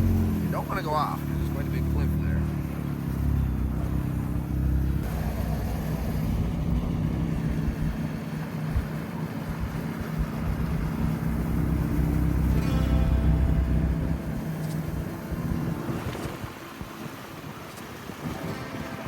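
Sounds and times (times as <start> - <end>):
car engine hum: 0.0 - 19.0
road rumble: 0.0 - 19.0.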